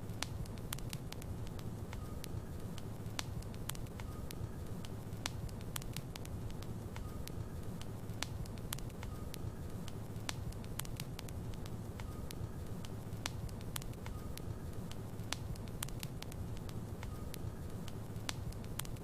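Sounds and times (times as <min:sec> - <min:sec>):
burning logs crackling and popping: 0:00.0 - 0:19.0
fire low rumble: 0:00.0 - 0:19.0.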